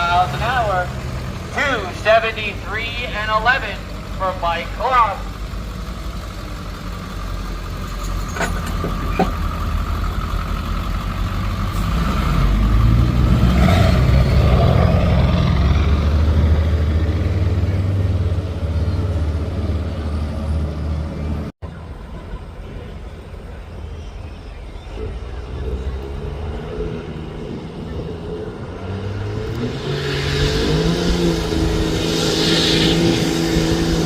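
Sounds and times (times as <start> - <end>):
truck engine rumbling: 0.0 - 34.0.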